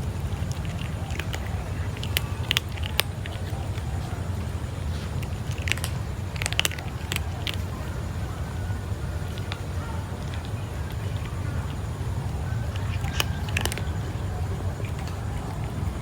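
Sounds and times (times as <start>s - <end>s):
kitten chewing food: 0.0s - 16.0s.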